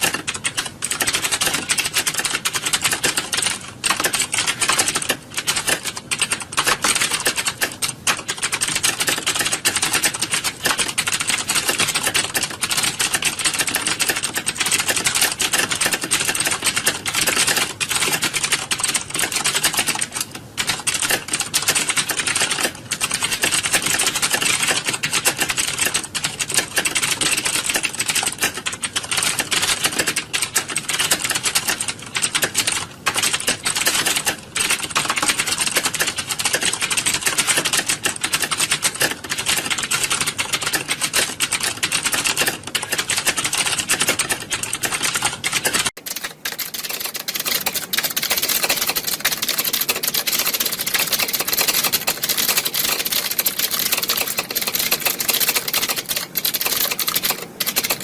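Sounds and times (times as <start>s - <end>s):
keyboards typing clatter: 0.0s - 58.0s.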